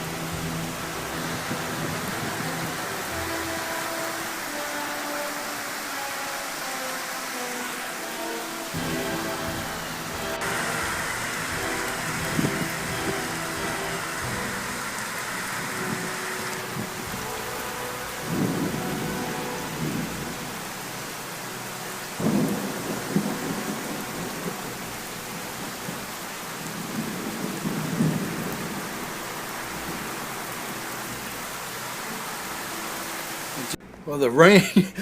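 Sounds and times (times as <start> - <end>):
thunder rumbling: 0.0 - 4.5, 8.7 - 32.8
heavy rain pouring: 0.0 - 35.0.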